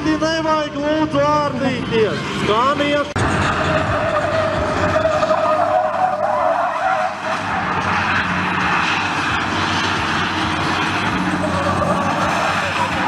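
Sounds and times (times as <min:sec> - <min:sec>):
diesel engine under load: 0:00.0 - 0:13.0
truck tyres squealing: 0:00.0 - 0:13.0.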